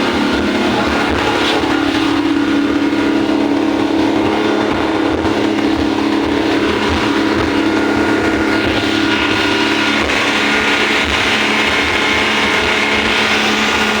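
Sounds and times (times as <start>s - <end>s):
speedboat engine drone: 0.0s - 14.0s.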